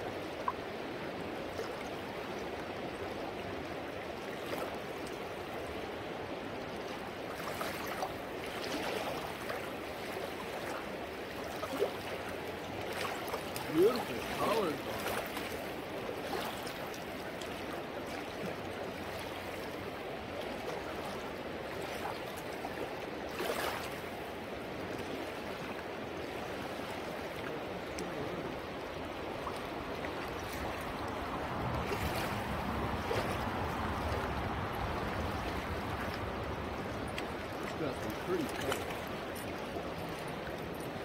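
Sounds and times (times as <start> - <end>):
river current rushing: 0.0 - 41.0
water swishes: 0.0 - 41.0.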